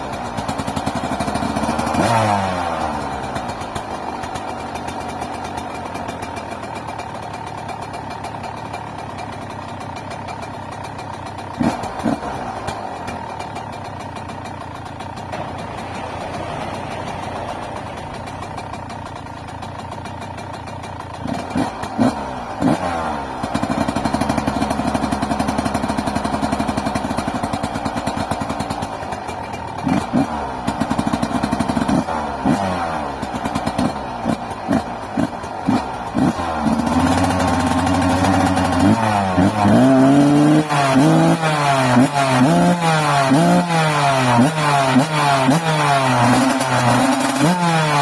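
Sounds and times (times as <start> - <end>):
two-stroke engine idling and revving: 0.0 - 48.0.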